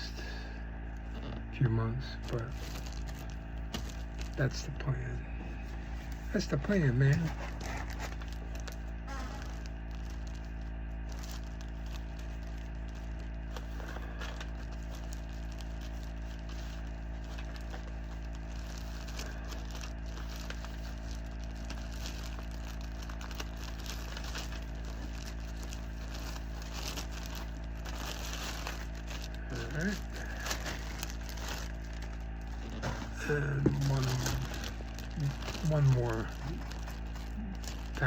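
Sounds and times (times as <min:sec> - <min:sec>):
low electrical hum: 0:00.0 - 0:38.0
plastic sleeves crinkling: 0:02.1 - 0:05.0, 0:05.6 - 0:38.0.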